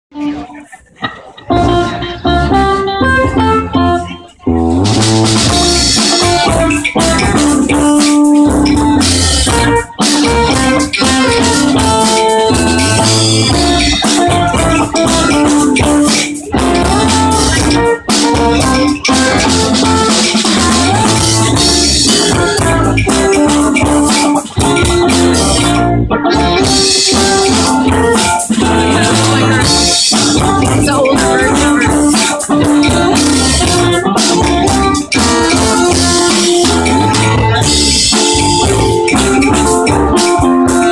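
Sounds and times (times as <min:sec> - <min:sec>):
live band playing: 0:00.1 - 0:40.9.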